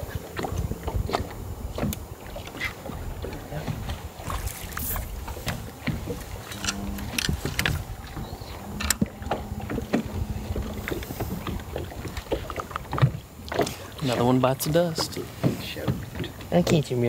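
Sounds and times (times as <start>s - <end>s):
low steady hum: 0.0s - 17.0s
water lapping against boat hull: 0.0s - 17.0s.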